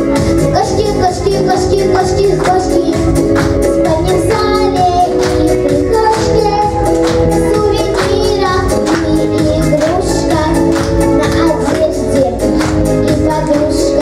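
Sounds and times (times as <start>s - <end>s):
upbeat song with steady beat: 0.0s - 14.0s.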